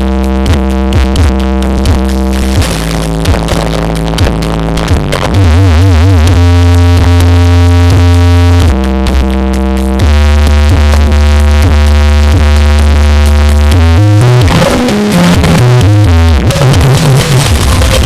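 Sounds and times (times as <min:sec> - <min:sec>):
deep bass notes: 0:00.0 - 0:18.0
loud electronic music: 0:00.0 - 0:18.0.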